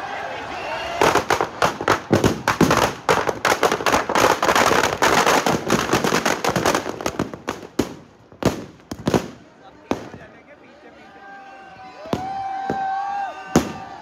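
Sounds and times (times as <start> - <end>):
firecrackers crackling: 0.8 - 10.4, 12.0 - 14.0.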